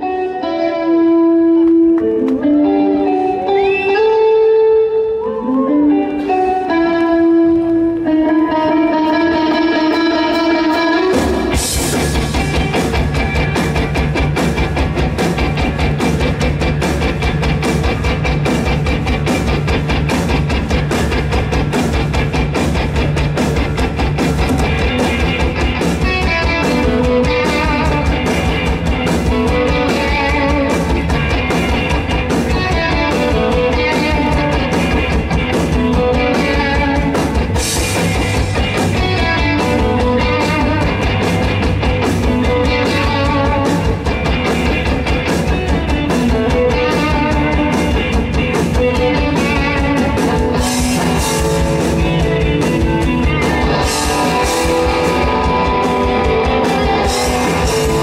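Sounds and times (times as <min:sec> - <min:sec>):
bass guitar: 0:00.0 - 0:58.0
distorted electric guitars: 0:00.0 - 0:58.0
drum kit: 0:06.1 - 0:58.0.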